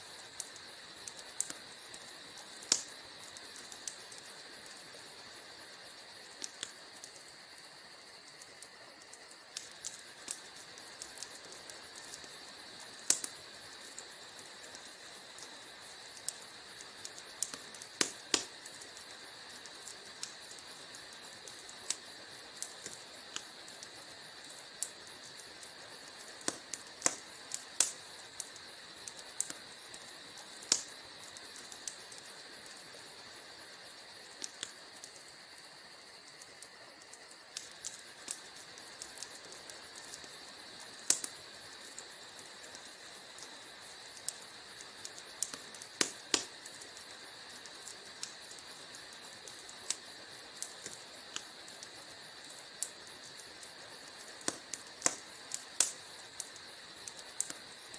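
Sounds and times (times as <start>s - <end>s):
steady high hiss: 0.0s - 57.9s
wood fire crackling: 0.0s - 57.9s.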